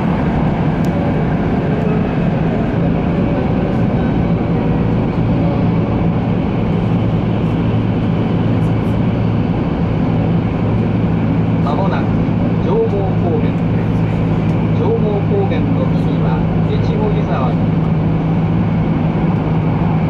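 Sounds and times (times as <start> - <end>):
train running noise at speed: 0.0 - 20.0.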